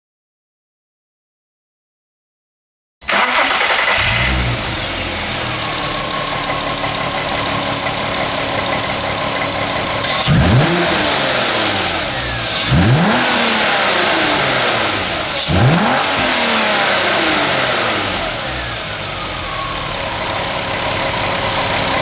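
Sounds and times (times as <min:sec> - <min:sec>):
car engine idling and revving: 0:03.1 - 0:22.0.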